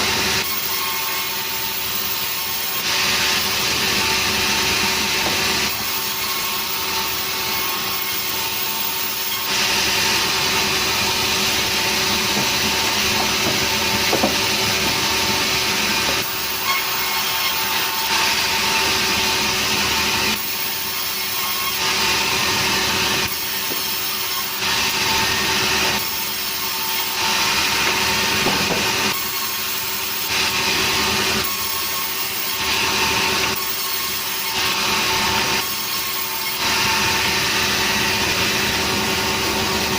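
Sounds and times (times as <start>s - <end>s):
saw blade cutting wood: 0.0s - 39.9s
saw motor humming: 0.0s - 39.9s.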